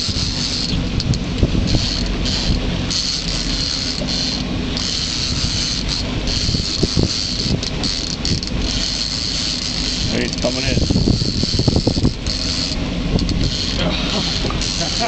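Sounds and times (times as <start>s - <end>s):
boat engine running: 0.0s - 15.0s
waves washing past hull: 0.0s - 15.0s
wind: 0.0s - 15.0s.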